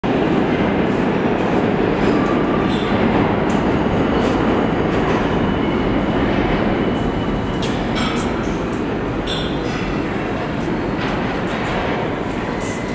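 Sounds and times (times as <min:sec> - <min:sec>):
subway train rumbling: 0:00.0 - 0:12.9.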